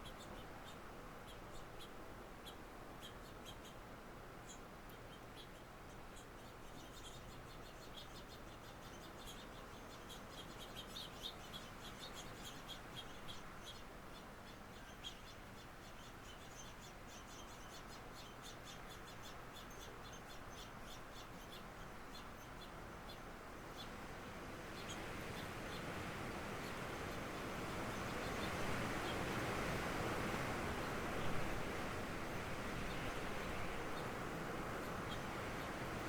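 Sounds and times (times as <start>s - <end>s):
small birds chirping: 0.0s - 36.0s
wind and rain: 0.0s - 36.0s.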